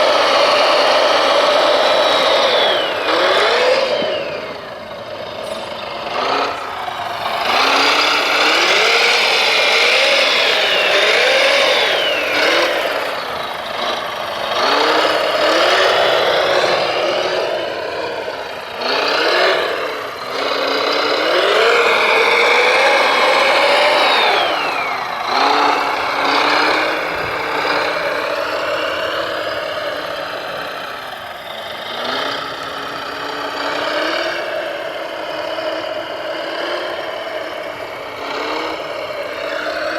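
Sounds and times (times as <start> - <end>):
construction machine motors whining: 0.0 - 39.9.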